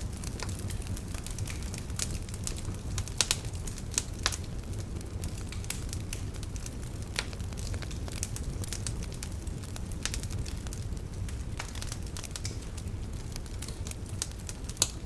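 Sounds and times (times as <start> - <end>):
fire rumble: 0.0 - 15.0
logs crackling and popping: 0.0 - 15.0.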